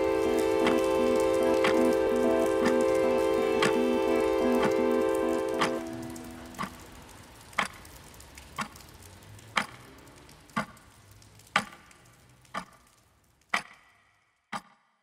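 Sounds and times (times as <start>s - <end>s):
faint background noise: 0.0s - 14.7s
sharp ticks: 0.0s - 14.8s.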